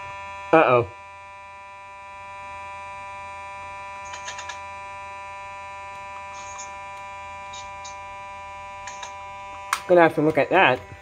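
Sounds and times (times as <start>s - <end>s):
fire alarm horn buzzing: 0.0s - 11.0s.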